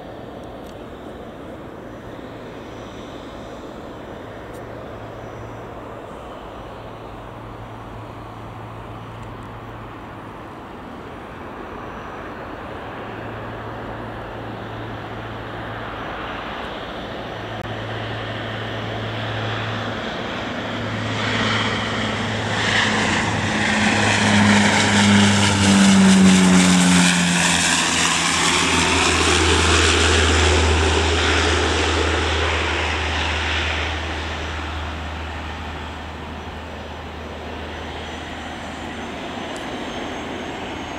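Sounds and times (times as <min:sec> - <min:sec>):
turboprop airplane passing: 0:00.0 - 0:40.9.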